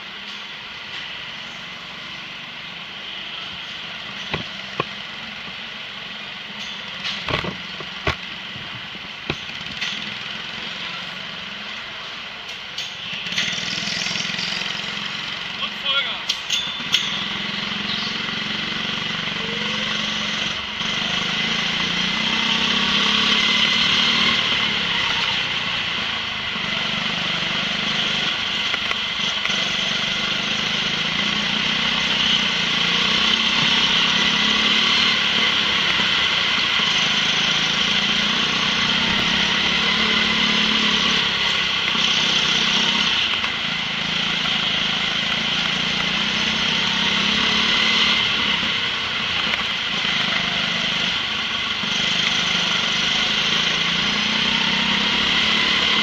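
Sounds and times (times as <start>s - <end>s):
go-kart engine running: 1.3s - 11.9s, 13.0s - 56.0s.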